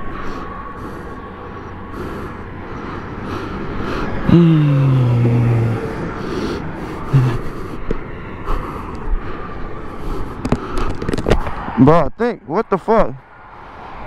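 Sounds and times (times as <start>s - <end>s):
motorcycle riding noise: 0.0s - 11.6s.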